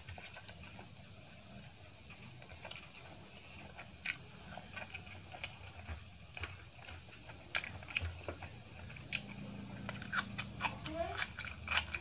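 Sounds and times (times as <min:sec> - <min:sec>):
faint low hum: 0:00.0 - 0:12.0
soft chewing: 0:00.0 - 0:12.0.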